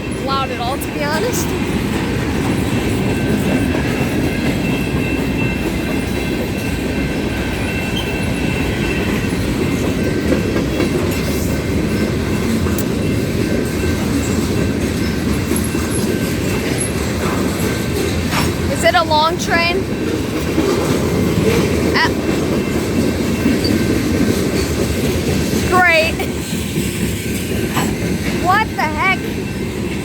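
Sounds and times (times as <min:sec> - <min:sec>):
freight train rumbling: 0:00.0 - 0:30.0.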